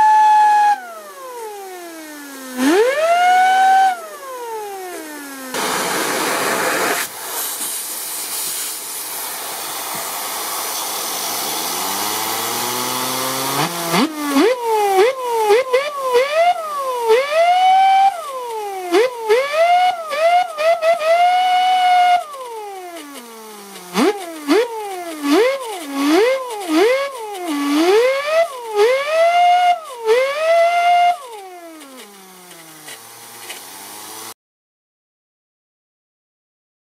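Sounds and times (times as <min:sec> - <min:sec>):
turbine whining: 0:00.0 - 0:34.4.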